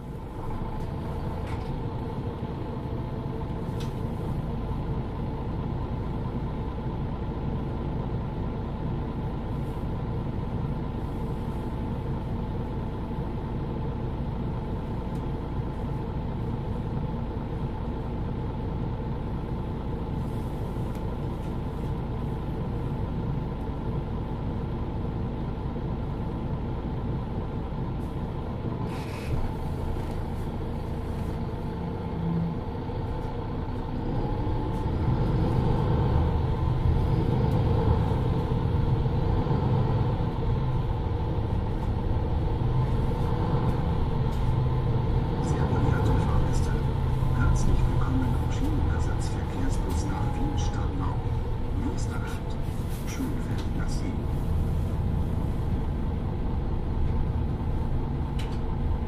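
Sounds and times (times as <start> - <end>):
bus diesel engine idling: 0.0 - 59.0.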